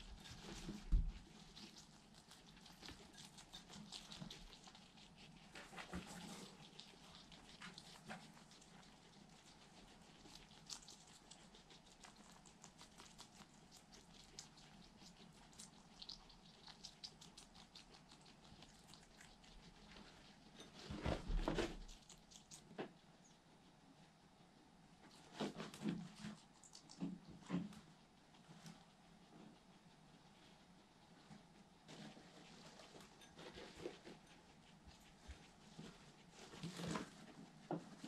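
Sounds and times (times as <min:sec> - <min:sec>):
guinea pigs chewing: 0:00.0 - 0:38.0.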